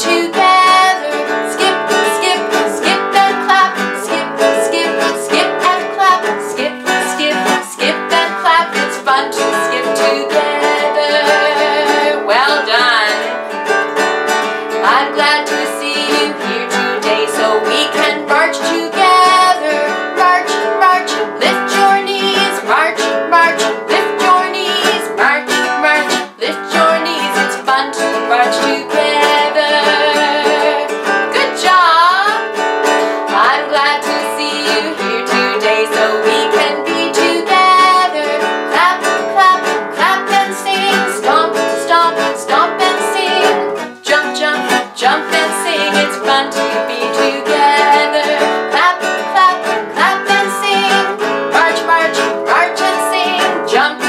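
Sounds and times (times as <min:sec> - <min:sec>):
woman singing a children's song: 0:00.0 - 0:13.6, 0:14.6 - 0:54.0
acoustic guitar strumming: 0:00.0 - 0:54.0.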